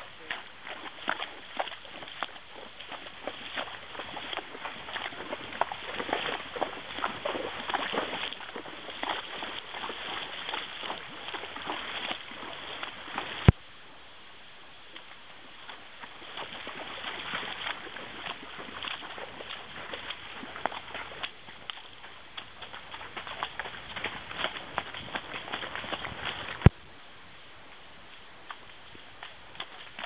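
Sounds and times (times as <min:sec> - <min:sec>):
hooves on wet stones: 0:00.0 - 0:13.6, 0:14.9 - 0:26.8, 0:28.0 - 0:30.0
hooves splashing through water: 0:00.0 - 0:13.8, 0:14.4 - 0:26.8, 0:27.7 - 0:30.0.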